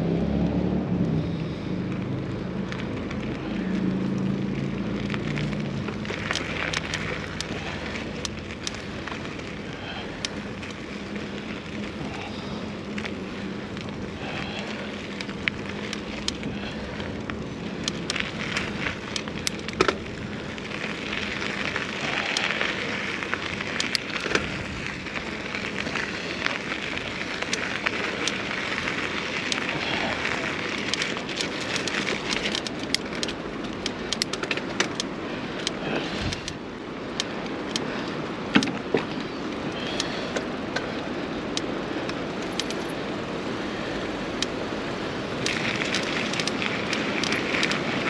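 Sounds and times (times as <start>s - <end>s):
bike tyre rolling on trail: 0.0s - 48.0s
bike clicks and rattles: 0.2s - 48.0s.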